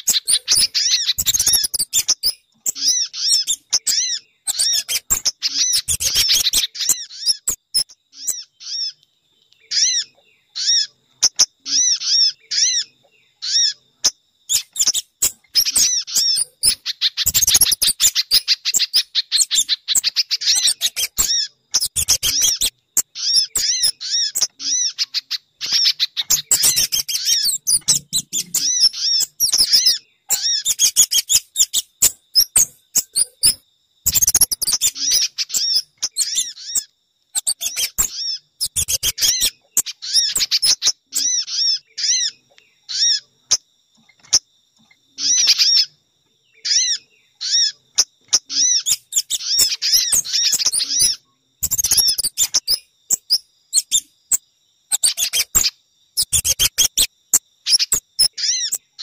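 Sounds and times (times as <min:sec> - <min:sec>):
high sharp bird chirps: 0:00.0 - 0:09.0, 0:09.6 - 0:44.4, 0:46.6 - 0:59.0.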